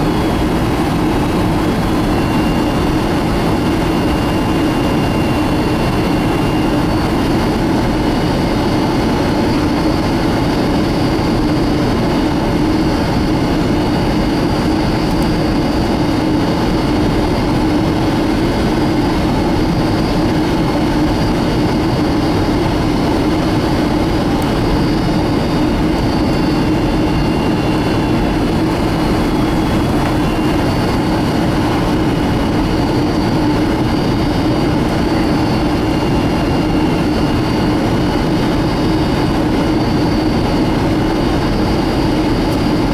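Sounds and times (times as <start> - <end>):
faint high whining tones: 0.0 - 42.9
jet engine cabin noise: 0.0 - 42.9.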